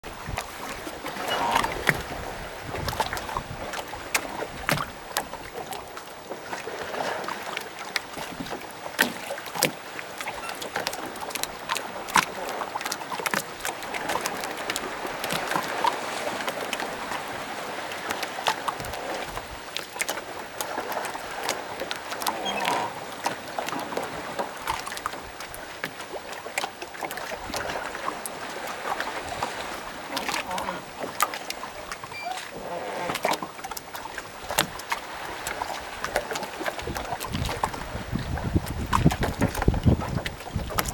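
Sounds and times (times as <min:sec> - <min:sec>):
waves lapping against boats: 0:00.0 - 0:40.9.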